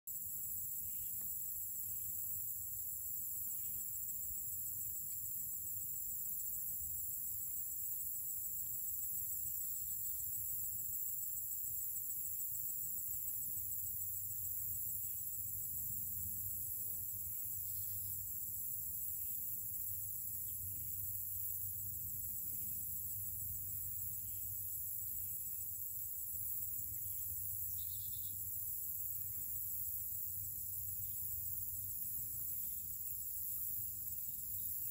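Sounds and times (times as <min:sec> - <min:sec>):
insects droning: 0:00.1 - 0:34.9.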